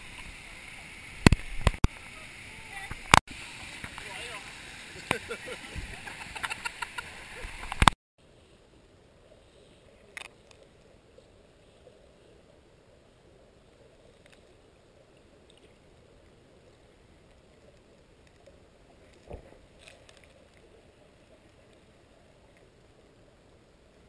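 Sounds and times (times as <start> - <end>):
muffled underwater river rush: 0.0 - 24.0.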